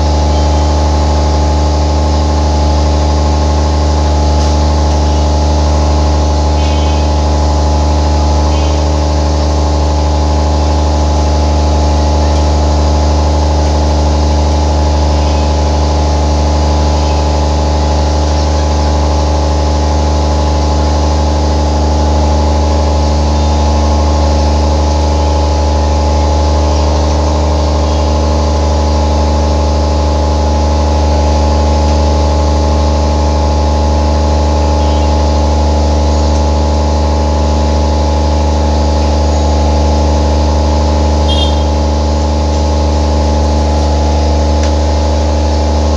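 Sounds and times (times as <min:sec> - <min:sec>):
generator droning: 0:00.0 - 0:45.9.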